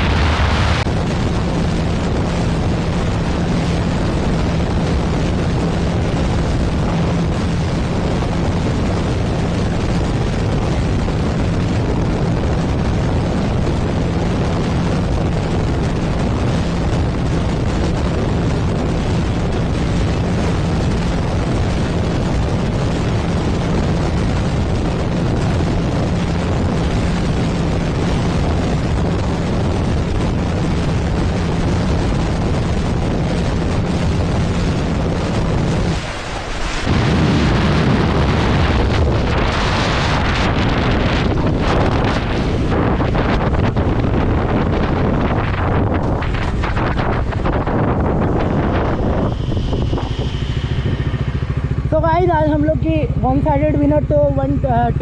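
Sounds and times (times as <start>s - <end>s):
motorcycle engine drone: 0.0s - 55.0s
wind buffeting microphone: 0.0s - 55.0s.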